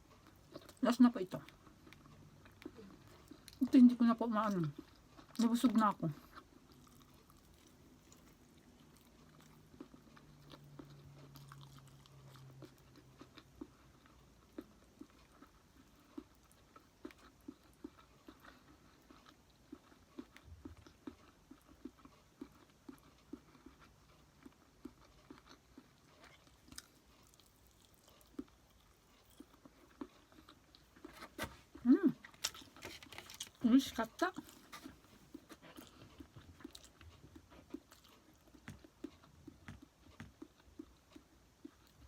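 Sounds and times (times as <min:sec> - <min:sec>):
wet mouth chewing: 0:00.0 - 0:03.8, 0:04.4 - 0:33.6, 0:34.3 - 0:42.0.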